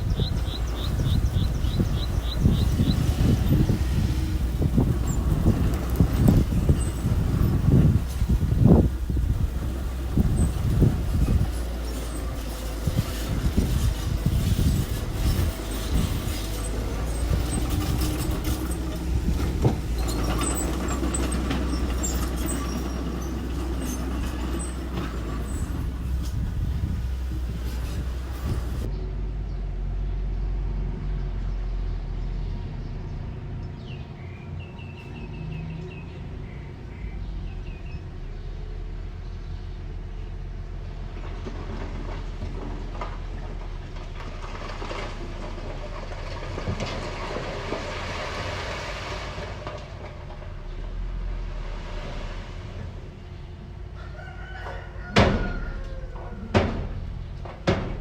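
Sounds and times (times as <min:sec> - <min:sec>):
mini bulldozer engine rumble: 0:00.0 - 0:58.0.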